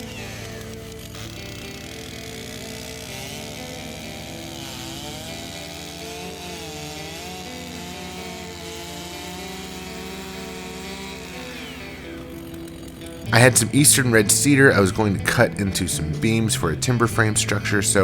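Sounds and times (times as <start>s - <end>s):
background music: 0.0s - 18.0s
small gasoline engine running: 0.0s - 18.0s.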